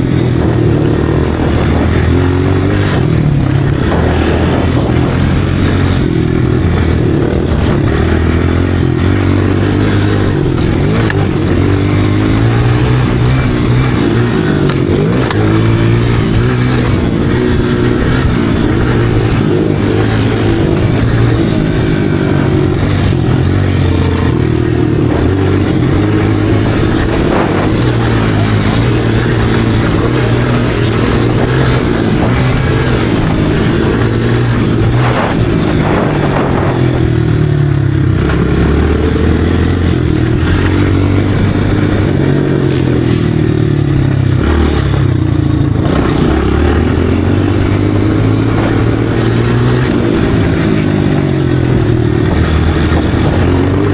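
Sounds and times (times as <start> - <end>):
dirt bike engine: 0.0 - 53.9.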